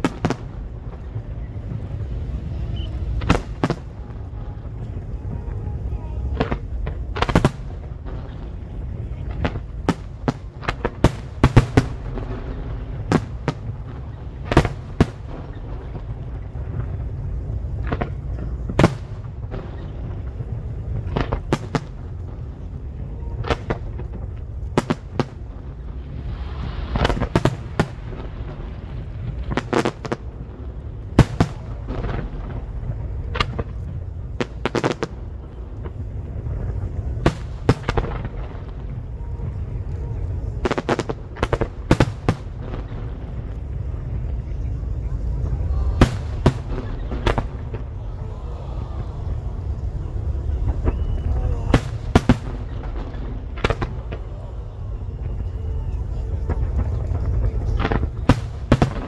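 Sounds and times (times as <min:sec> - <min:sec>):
fireworks bangs: 0:00.0 - 0:59.0
low rumble: 0:00.0 - 0:59.0.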